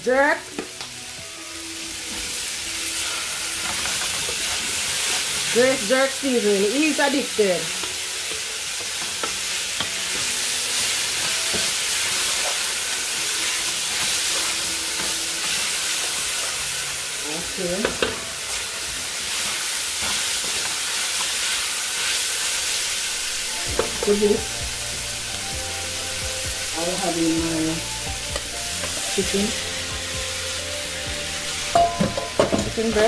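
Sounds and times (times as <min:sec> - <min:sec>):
vegetables sizzling in a pan: 0:00.0 - 0:33.0.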